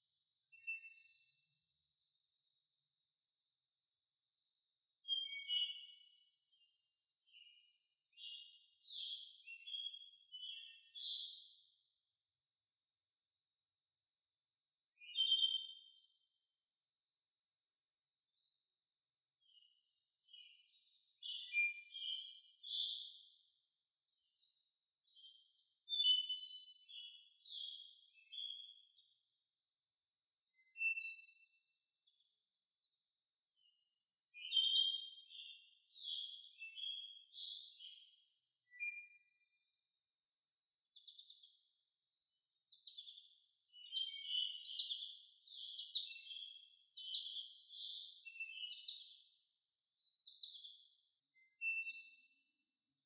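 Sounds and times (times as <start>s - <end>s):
cricket trilling: 0.0s - 53.0s.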